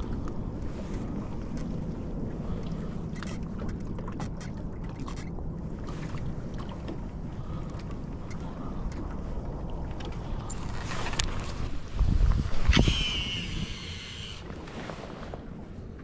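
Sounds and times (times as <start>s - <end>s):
small waves lapping at hull: 0.0s - 16.0s
wind rumble on microphone: 0.0s - 16.0s.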